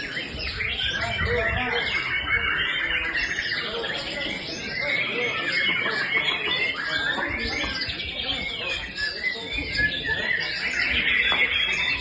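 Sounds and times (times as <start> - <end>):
birds singing chorus: 0.0 - 12.0.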